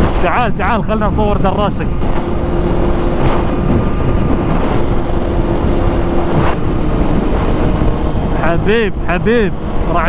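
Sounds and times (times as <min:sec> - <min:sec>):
motorcycle engine drone: 0:00.0 - 0:10.0
wind rushing over microphone: 0:00.0 - 0:10.0.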